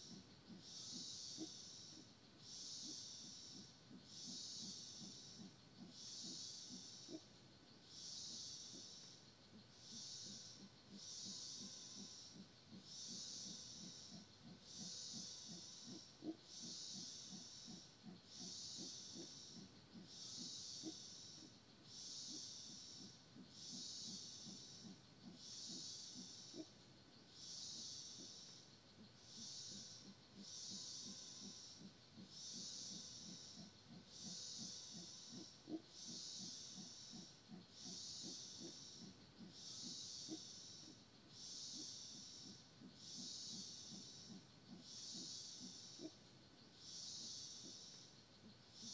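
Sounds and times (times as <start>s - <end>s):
insect chorus buzzing: 0.0s - 48.9s
low pulsing insect sound: 0.0s - 48.9s.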